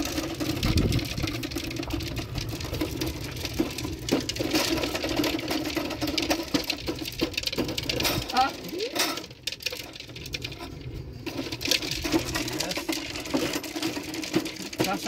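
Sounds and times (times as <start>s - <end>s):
toy wheel whirring rattle: 0.0s - 15.0s.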